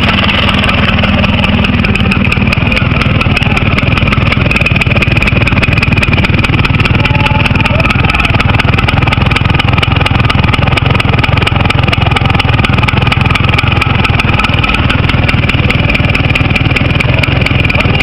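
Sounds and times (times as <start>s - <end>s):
vehicle engine running steadily: 0.0s - 18.0s.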